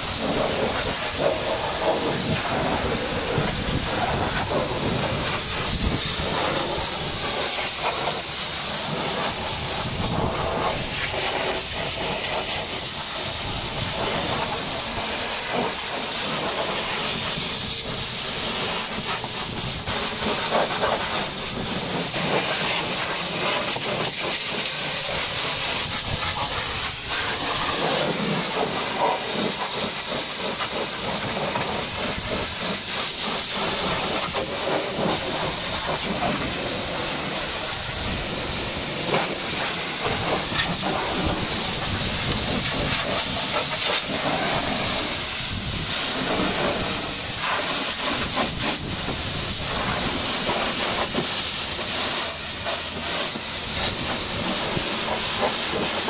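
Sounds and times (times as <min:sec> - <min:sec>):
pressure washer jet hissing: 0:00.0 - 0:56.0
water spattering off metal: 0:00.0 - 0:56.0.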